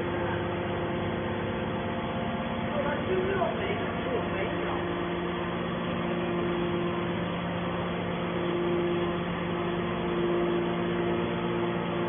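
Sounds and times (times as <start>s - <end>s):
higher machine tone: 0.0s - 12.0s
machine hum: 0.0s - 12.0s.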